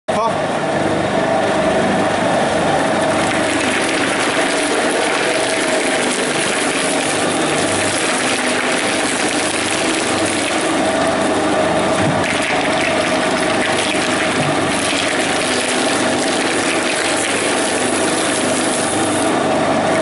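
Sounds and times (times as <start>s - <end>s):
shredder grinding plastic: 3.0s - 20.0s.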